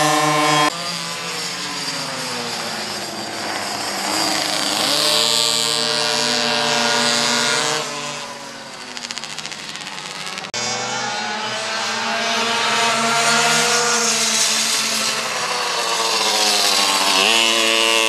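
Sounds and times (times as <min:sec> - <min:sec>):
small two-stroke engines buzzing: 0:00.0 - 0:18.0.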